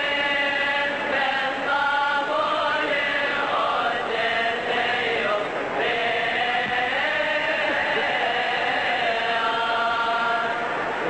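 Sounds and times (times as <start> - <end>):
choir chanting a hymn: 0.0 - 11.0.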